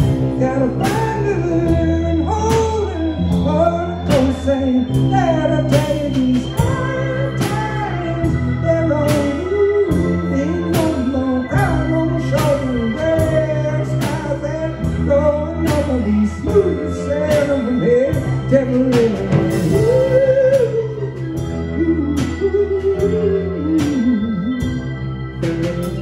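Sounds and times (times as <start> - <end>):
bending melody line: 0.0 - 26.0
live band playing upbeat music: 0.0 - 26.0
sustained organ chords: 0.0 - 26.0.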